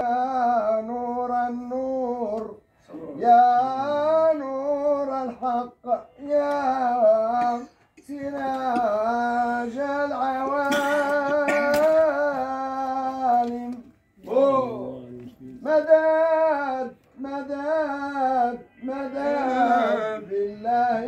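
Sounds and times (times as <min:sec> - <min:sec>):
man chanting held notes: 0:00.0 - 0:21.0.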